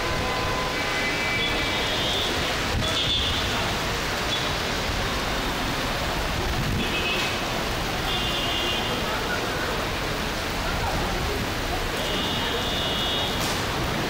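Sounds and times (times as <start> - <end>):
rain falling on a street: 0.0 - 14.0.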